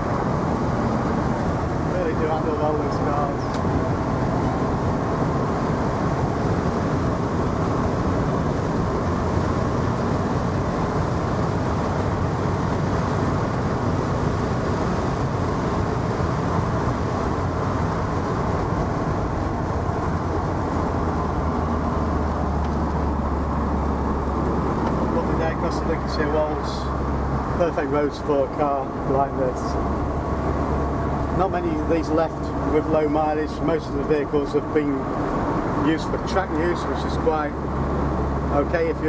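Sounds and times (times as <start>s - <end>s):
car engine running: 0.0s - 39.0s
road noise: 0.0s - 39.0s.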